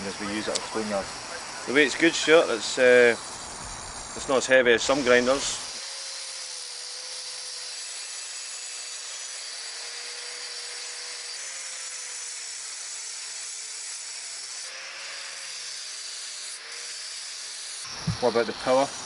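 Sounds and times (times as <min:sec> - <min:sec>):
angle grinder grinding stone: 0:00.0 - 0:19.0.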